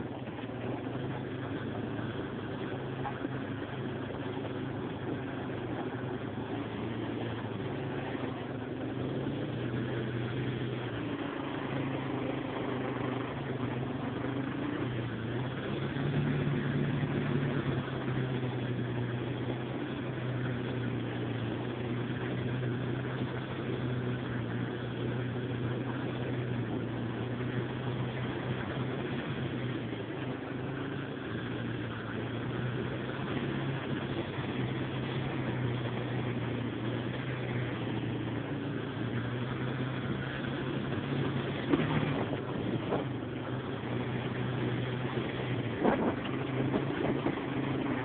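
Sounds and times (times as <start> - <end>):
atv engine running: 0.0 - 48.0.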